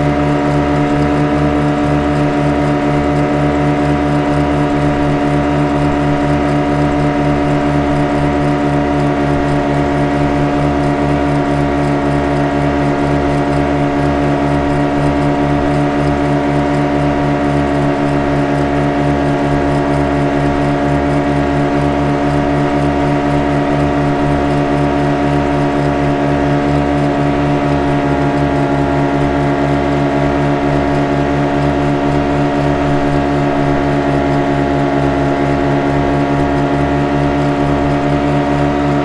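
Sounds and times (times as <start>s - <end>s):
speedboat engine running: 0.0s - 39.0s.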